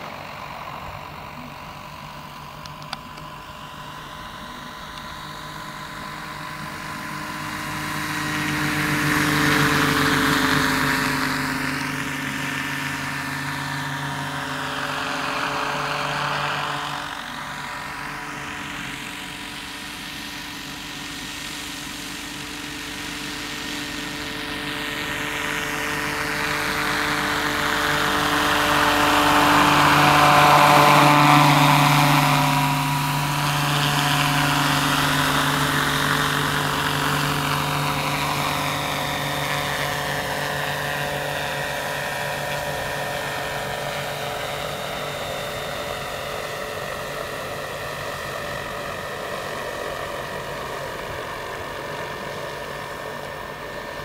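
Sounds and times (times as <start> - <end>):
model helicopter rotor whine: 0.0 - 54.0.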